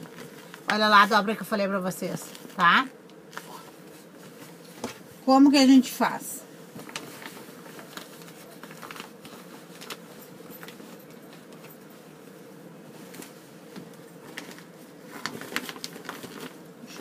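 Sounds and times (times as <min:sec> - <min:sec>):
faint steady hum: 0:00.0 - 0:17.0
soft fabric rustling: 0:00.0 - 0:17.0.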